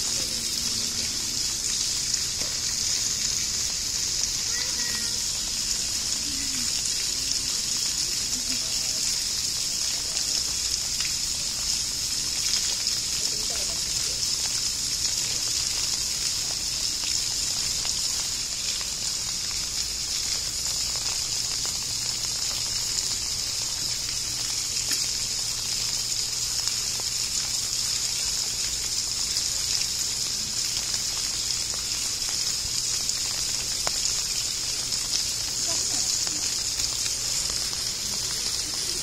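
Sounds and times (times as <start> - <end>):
water gushing into pool: 0.0 - 39.0.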